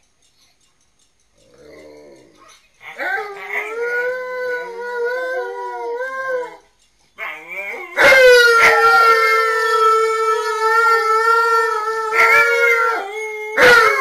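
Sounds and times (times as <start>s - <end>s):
dog howling: 1.5s - 14.0s.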